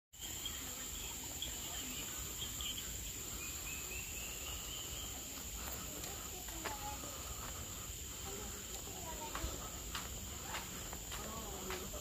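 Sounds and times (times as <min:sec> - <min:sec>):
birds whistling faintly: 0:00.2 - 0:11.9
insects droning: 0:00.2 - 0:12.0.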